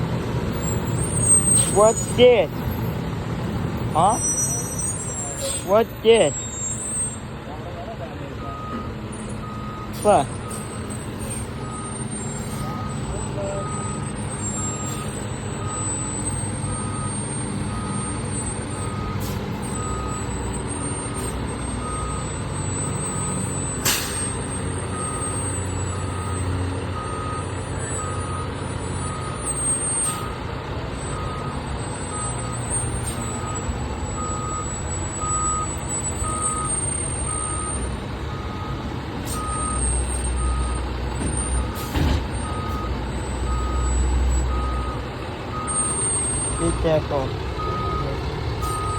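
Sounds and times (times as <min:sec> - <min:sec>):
diesel engine idling: 0:00.0 - 0:48.9
reversing alarm beeping: 0:00.6 - 0:02.5, 0:03.9 - 0:07.2, 0:08.4 - 0:48.9.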